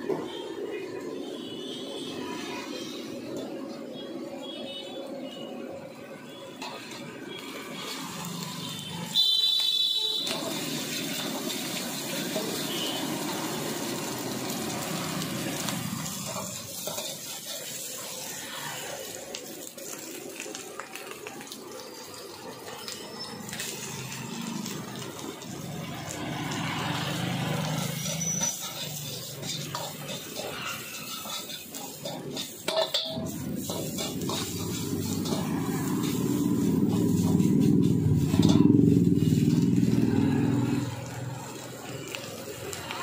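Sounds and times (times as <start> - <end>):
food sizzling in hot oil: 1.4 - 43.0
metal ladle stir-frying: 6.0 - 43.0.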